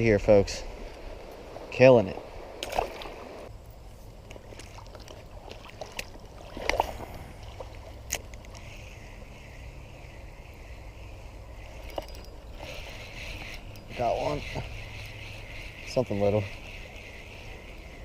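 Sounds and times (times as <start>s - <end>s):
creek water running: 0.0s - 3.5s, 4.1s - 18.0s.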